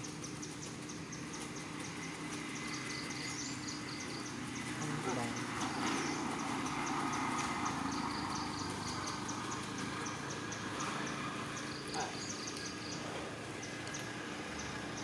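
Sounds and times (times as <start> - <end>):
insects chirping: 0.0 - 15.0
outdoor background noise: 0.0 - 15.0.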